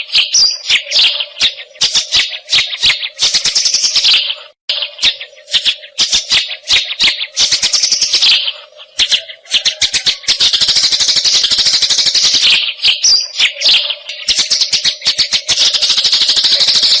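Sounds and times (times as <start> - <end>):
sparrows chirping and chattering: 0.0 - 17.0.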